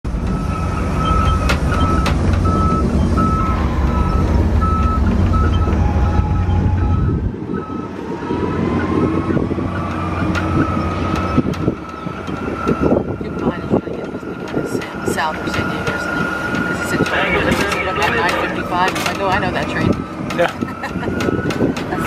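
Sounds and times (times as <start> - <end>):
cart motor rumble: 0.1 - 22.0
cart warning beeper: 0.3 - 22.0.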